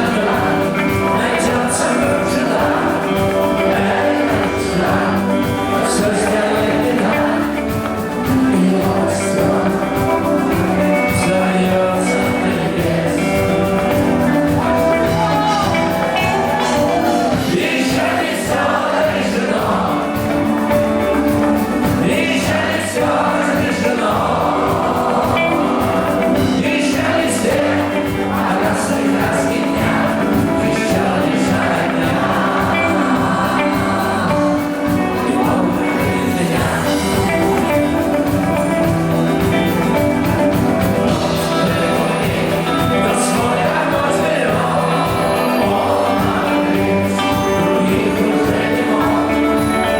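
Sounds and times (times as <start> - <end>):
live rock band playing: 0.0 - 49.9
person singing: 0.0 - 49.9.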